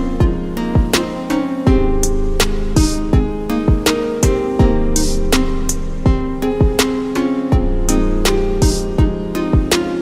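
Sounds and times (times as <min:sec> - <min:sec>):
held chords: 0:00.0 - 0:10.0.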